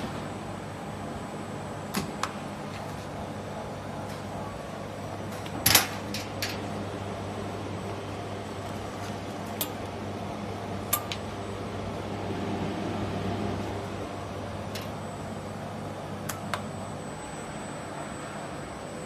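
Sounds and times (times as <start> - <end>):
machine hum and fan noise: 0.0 - 19.0.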